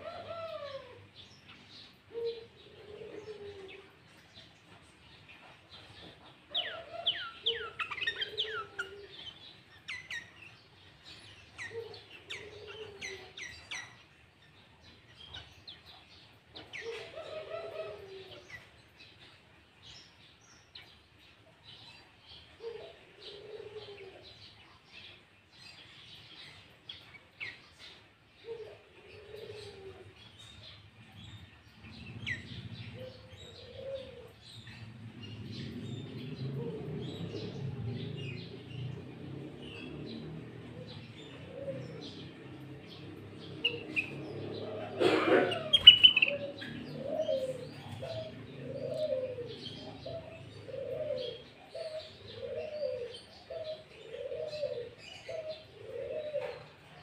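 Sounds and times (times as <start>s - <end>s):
dove cooing: 0.0s - 14.0s, 15.1s - 19.2s, 22.5s - 25.1s, 27.0s - 57.0s
small birds chirping: 0.0s - 57.0s.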